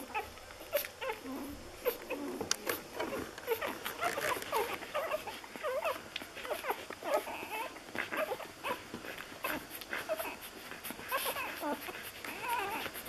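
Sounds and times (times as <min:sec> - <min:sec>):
puppies squeaking and whimpering: 0:00.0 - 0:13.0
puppies suckling clicks: 0:00.0 - 0:13.0.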